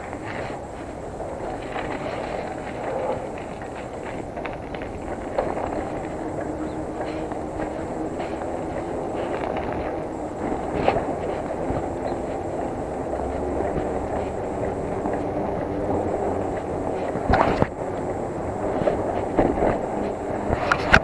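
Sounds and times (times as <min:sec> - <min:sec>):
bicycle tyres rolling: 0:00.0 - 0:21.0
bike rattling: 0:00.0 - 0:21.0.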